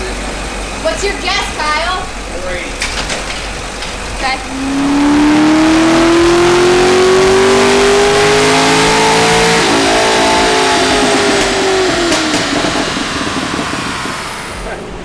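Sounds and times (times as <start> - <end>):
car engine revving at full throttle: 0.0 - 15.0.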